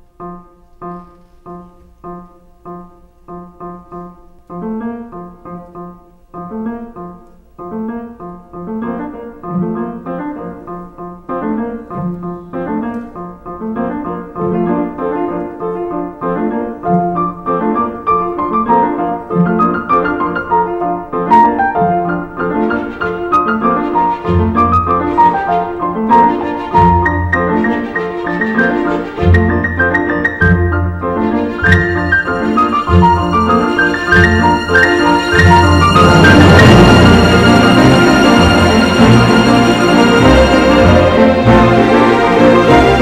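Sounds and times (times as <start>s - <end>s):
piano chords: 0.0s - 43.0s.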